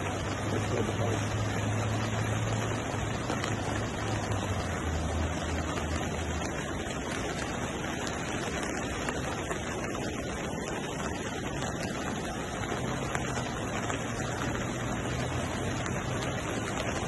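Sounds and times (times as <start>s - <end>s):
floodwater rushing: 0.0s - 17.0s
heavy rain: 0.0s - 17.0s.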